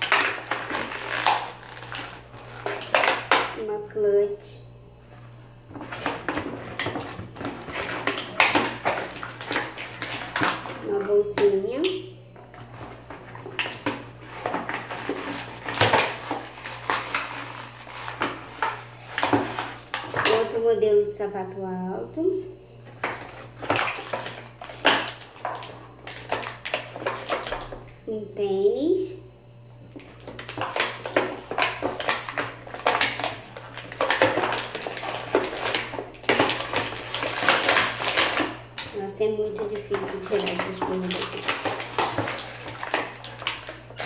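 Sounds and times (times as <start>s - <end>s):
plastic bag crinkling: 0.0s - 3.7s, 5.0s - 11.7s, 12.4s - 20.6s, 22.8s - 28.0s, 29.9s - 44.0s
plastic packaging crackling: 0.0s - 3.7s, 5.2s - 11.7s, 12.4s - 20.6s, 22.8s - 28.0s, 29.9s - 44.0s.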